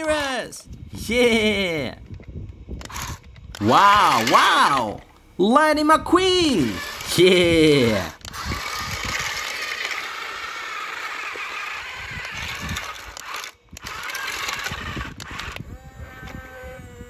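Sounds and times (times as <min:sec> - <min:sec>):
toy electric motor whining: 0:01.0 - 0:05.0, 0:06.2 - 0:17.0.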